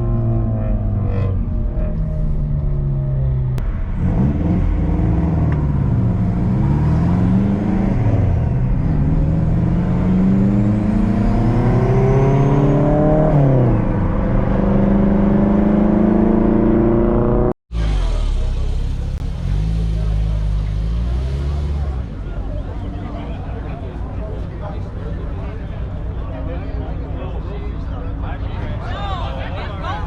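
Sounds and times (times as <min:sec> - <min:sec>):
car engine revving: 0:00.0 - 0:24.5.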